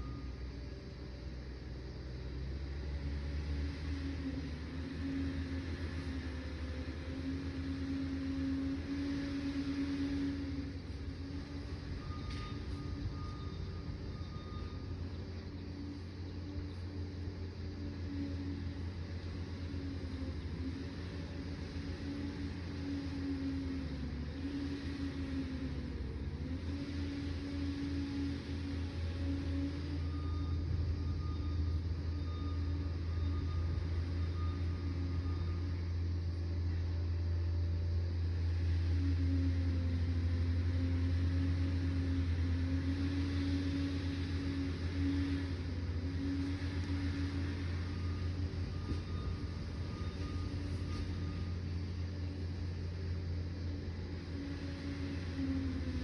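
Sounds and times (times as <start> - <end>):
dozer diesel engine running: 0.0 - 56.0.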